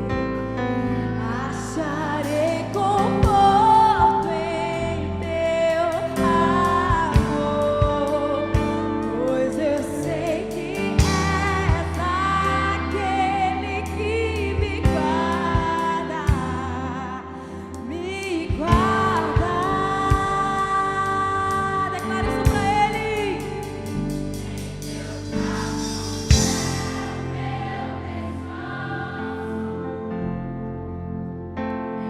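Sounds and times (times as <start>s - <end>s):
worship song with band: 0.0s - 30.4s.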